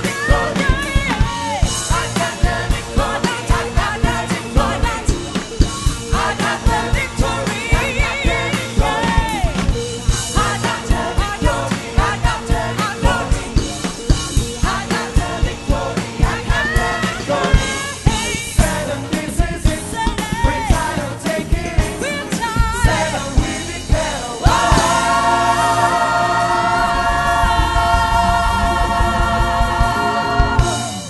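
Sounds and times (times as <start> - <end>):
woman lead singer: 0.0 - 30.8
drums: 0.0 - 31.0
gospel choir singing: 0.0 - 31.0.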